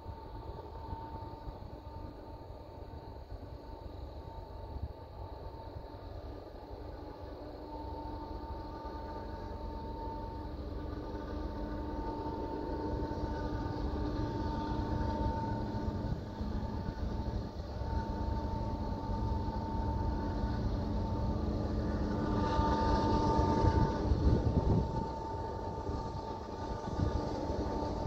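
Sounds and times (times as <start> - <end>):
diesel locomotives rumbling: 0.0 - 28.0.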